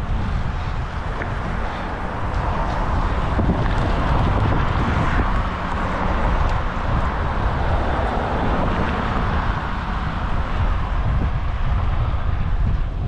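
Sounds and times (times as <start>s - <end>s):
bike road noise: 0.0s - 13.0s
wind buffeting microphone: 0.0s - 13.0s.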